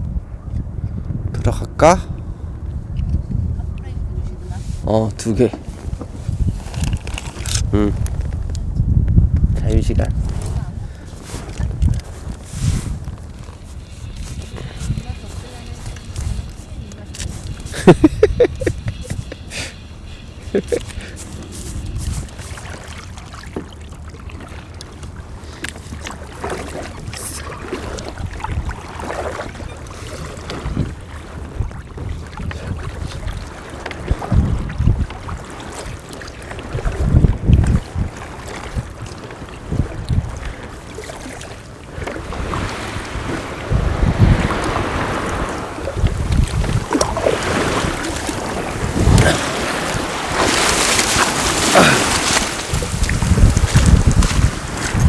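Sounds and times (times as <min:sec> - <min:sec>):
water lapping and splashing: 0:00.0 - 0:55.0
wind rumbling on microphone: 0:00.0 - 0:55.0.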